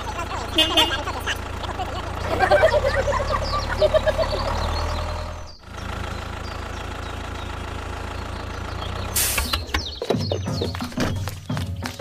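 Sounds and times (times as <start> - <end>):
engine idling: 0.0 - 11.5.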